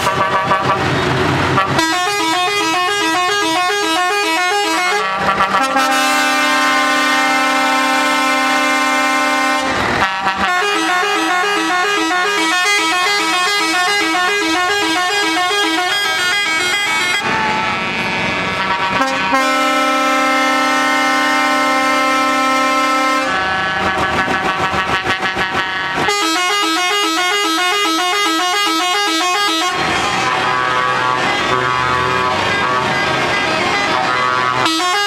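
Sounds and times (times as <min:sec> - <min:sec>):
truck musical horn: 0:00.0 - 0:35.0.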